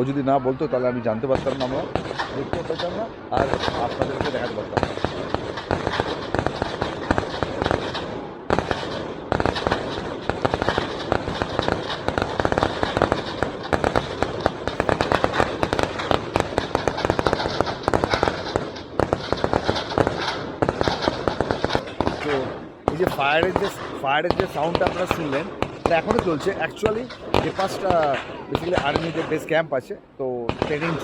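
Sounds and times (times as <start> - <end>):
rapid gunfire volleys: 1.3 - 29.6, 30.5 - 31.0.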